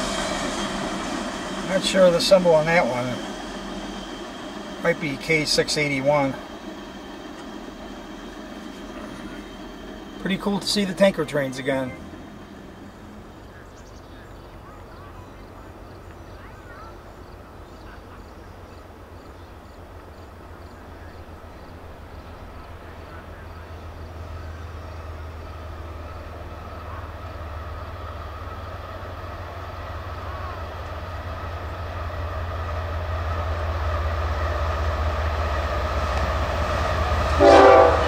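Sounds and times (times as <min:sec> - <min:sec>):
diesel locomotive engine drone: 0:00.0 - 0:38.0
steady whine: 0:00.0 - 0:38.0.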